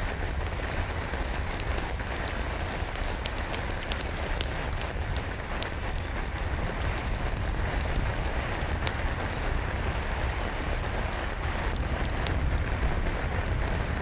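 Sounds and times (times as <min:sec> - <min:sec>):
rain falling: 0:00.0 - 0:14.0
wood fire crackling: 0:00.0 - 0:14.0.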